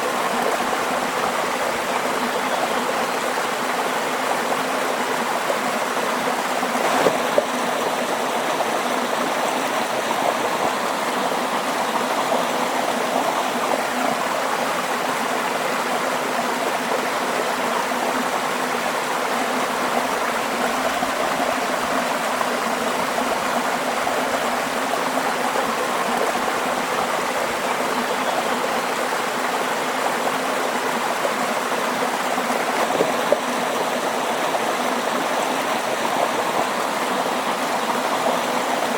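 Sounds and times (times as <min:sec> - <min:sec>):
stream of water babbling: 0:00.0 - 0:38.9.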